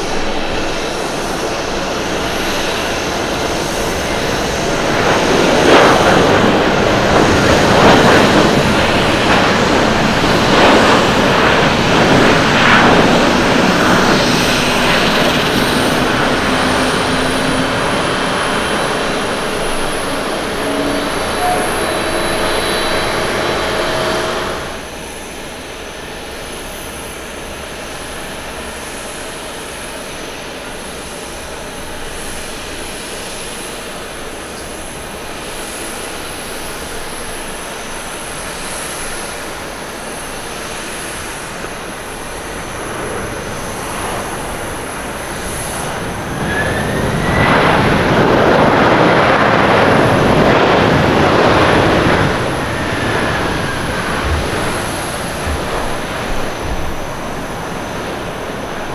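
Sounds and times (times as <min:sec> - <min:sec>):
jet engines at takeoff thrust: 0:00.0 - 0:58.9
jet noise on approach: 0:00.0 - 0:58.9.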